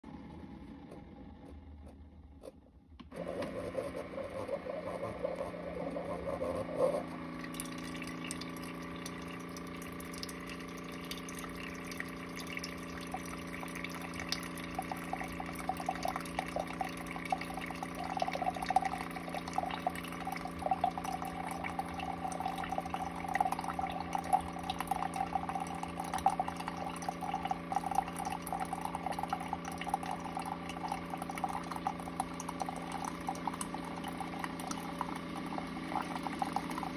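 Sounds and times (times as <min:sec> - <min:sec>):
brewing machine pump humming: 0:03.0 - 0:36.9
liquid trickling into a mug: 0:07.3 - 0:36.9.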